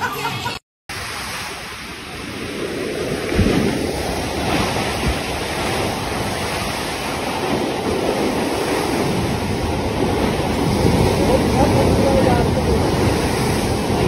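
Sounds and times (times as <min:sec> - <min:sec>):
bow wave rushing and splashing: 0:00.9 - 0:14.0
wind rumbling on microphone: 0:01.4 - 0:14.0.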